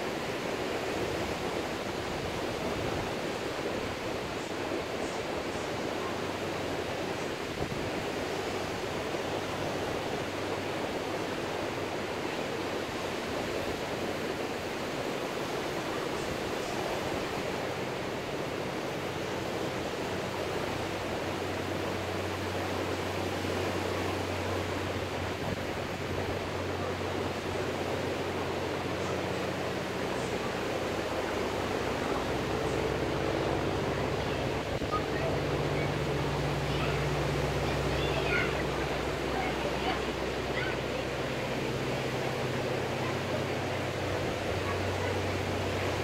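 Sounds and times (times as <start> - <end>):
low steady hum: 0.0 - 46.0
ocean surf breaking: 0.0 - 46.0.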